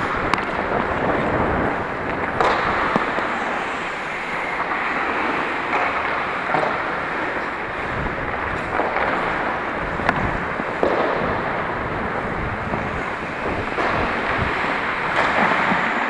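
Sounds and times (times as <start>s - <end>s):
skates scraping on ice: 0.0s - 16.0s.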